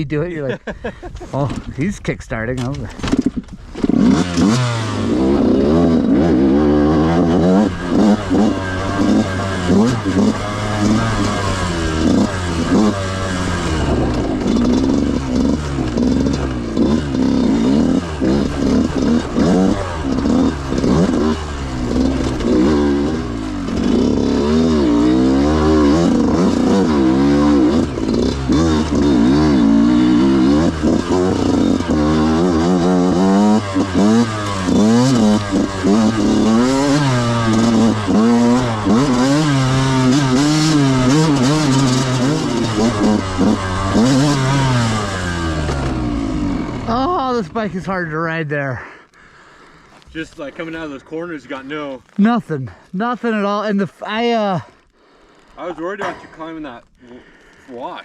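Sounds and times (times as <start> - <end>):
two-stroke dirt bike engine revving: 1.4 - 48.4.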